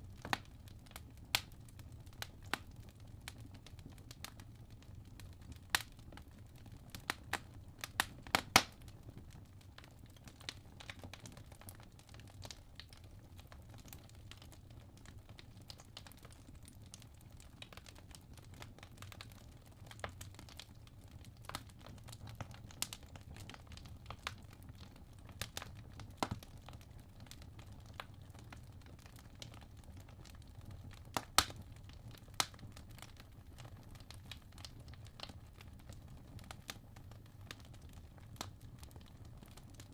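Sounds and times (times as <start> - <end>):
burning logs crackling: 0.1 - 39.9.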